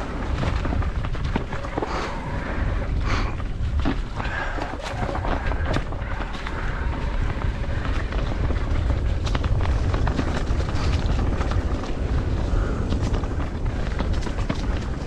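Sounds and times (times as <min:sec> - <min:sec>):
bike knocks and rattles: 0:00.0 - 0:02.2, 0:03.0 - 0:15.0
wind rumbling on microphone: 0:00.0 - 0:15.0.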